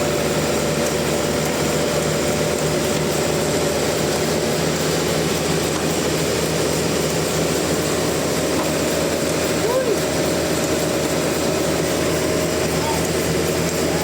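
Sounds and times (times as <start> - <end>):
sawmill machinery drone: 0.0 - 14.0.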